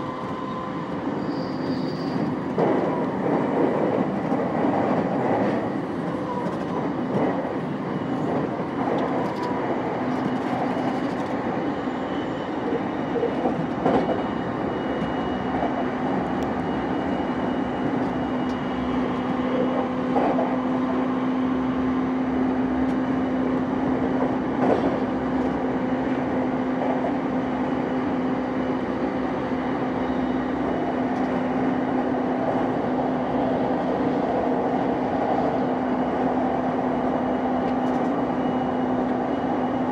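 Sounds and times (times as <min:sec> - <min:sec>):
train wheels rumbling on rail: 0:00.0 - 0:39.9
rail joint clicks: 0:00.1 - 0:17.2, 0:17.8 - 0:21.0, 0:22.7 - 0:28.2, 0:30.7 - 0:32.9, 0:33.5 - 0:39.9.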